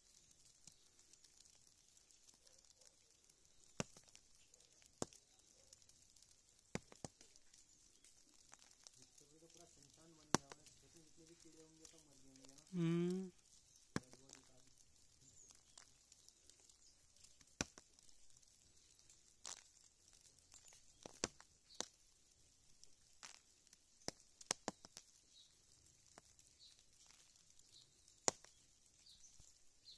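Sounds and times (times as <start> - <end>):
soft ticks of falling snow: 0.0 - 29.9.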